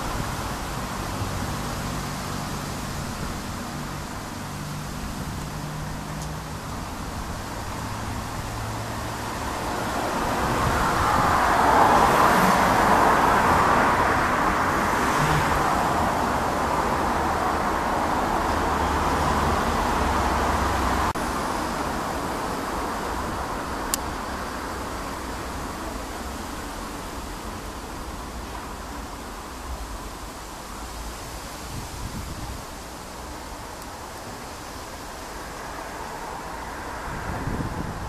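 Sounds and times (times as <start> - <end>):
rushing vehicle noise: 0.0 - 38.0.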